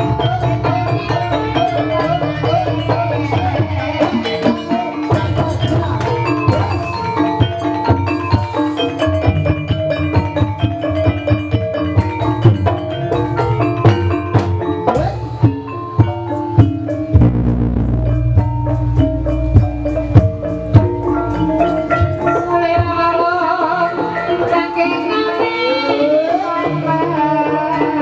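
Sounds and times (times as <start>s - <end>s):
hand drums: 0.0s - 28.0s
mallet instruments ringing: 0.0s - 28.0s.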